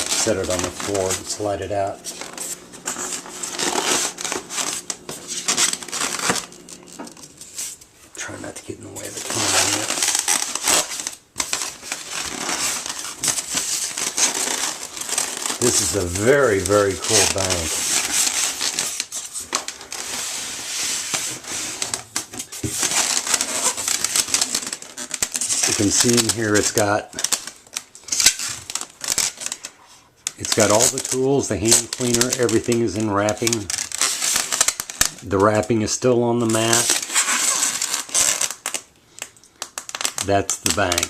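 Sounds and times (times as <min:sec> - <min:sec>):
packaging rustling and crinkling: 0:00.0 - 0:41.0.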